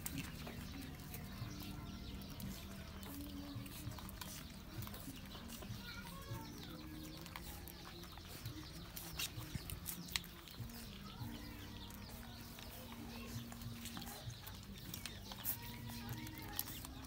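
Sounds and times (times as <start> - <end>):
puppies suckling: 0.0 - 17.0.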